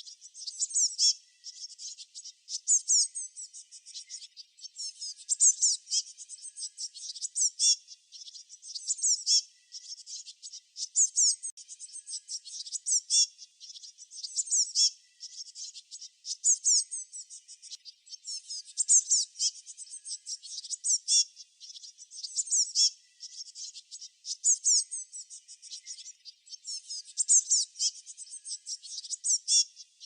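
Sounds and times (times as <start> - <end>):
songbirds chirping and twittering: 0.0 - 30.0.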